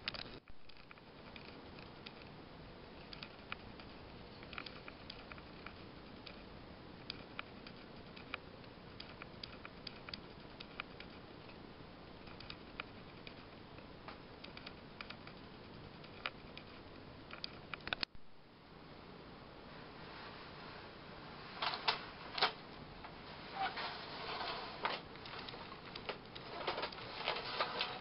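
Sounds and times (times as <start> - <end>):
low hiss: 0.0 - 28.0.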